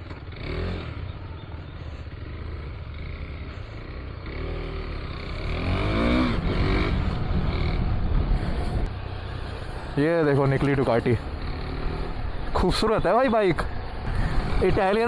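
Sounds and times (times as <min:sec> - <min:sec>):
motorcycle engine revving: 0:00.0 - 0:10.1, 0:10.7 - 0:15.0
wind and road noise: 0:00.0 - 0:15.0.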